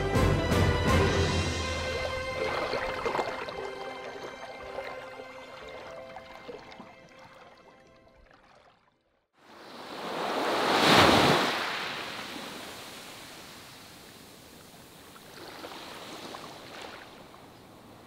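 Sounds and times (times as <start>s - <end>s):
sea waves breaking: 1.0s - 18.0s.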